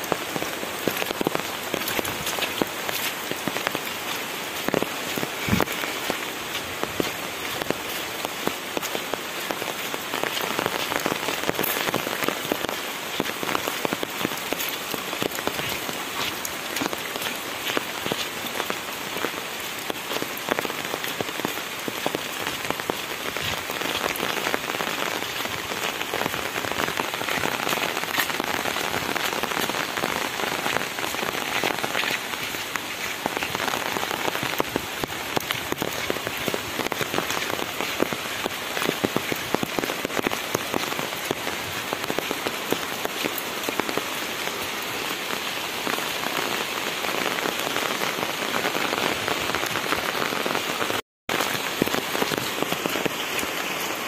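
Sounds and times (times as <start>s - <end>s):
heavy rain on umbrella: 0.0s - 54.0s.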